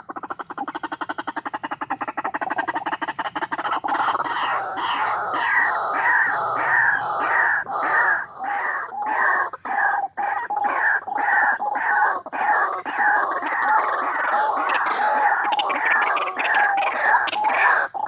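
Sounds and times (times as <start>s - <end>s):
waterhen calls: 0.2s - 18.0s.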